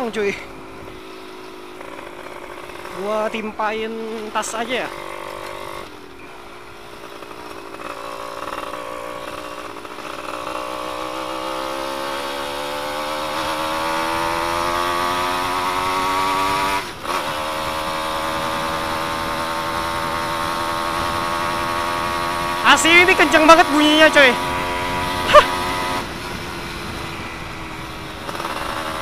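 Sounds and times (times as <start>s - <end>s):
loud two-stroke engine accelerating: 0.0s - 29.0s.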